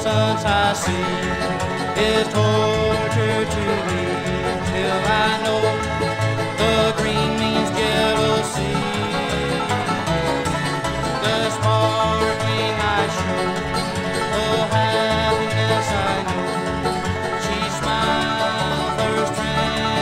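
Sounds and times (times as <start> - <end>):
bluegrass band instrumental: 0.0 - 20.0.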